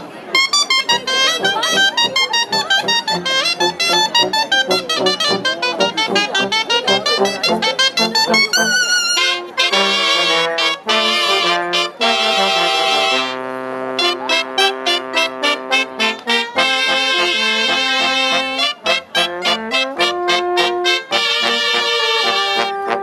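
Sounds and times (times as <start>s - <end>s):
wind band of shawms and brass: 0.0s - 23.0s.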